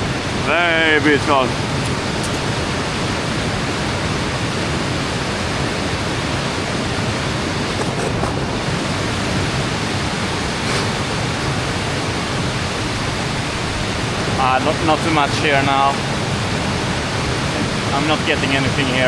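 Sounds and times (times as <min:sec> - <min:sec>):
mountain stream rushing over rocks: 0:00.0 - 0:19.0.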